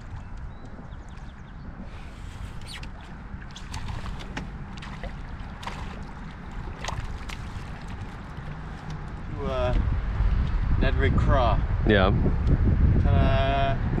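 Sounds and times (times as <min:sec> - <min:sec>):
river water rumble: 0:00.0 - 0:11.2.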